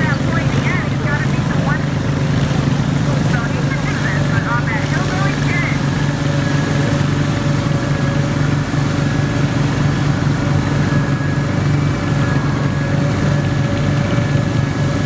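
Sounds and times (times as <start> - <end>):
garden tractor engine running: 0.0 - 15.0.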